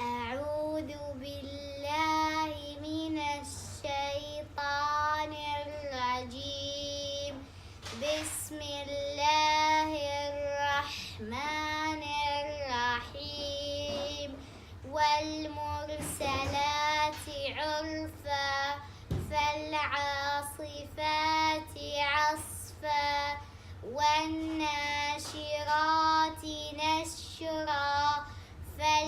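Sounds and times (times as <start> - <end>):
girl chanting: 0.0 - 29.0.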